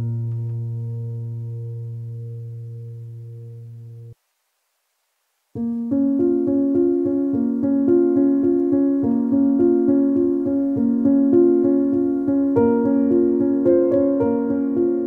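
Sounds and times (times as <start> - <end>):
piano music repeating notes: 0.0 - 4.2, 5.6 - 15.0.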